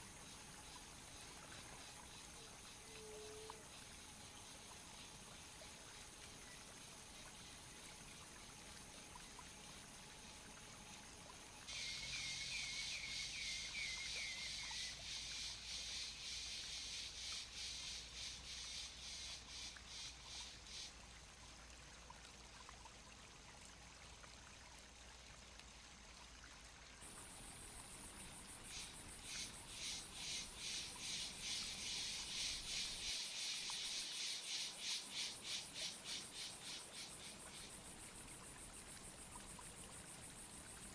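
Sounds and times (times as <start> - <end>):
insects chirring: 0.0 - 20.9, 27.0 - 40.9.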